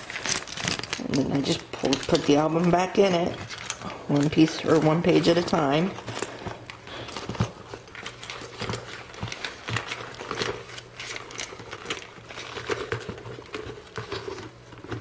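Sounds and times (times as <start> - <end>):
paper pages rustling and tapping: 0.0 - 15.0.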